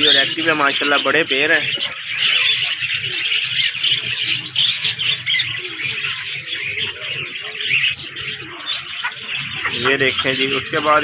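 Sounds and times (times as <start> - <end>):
caged birds chirping and chattering: 0.0 - 11.0.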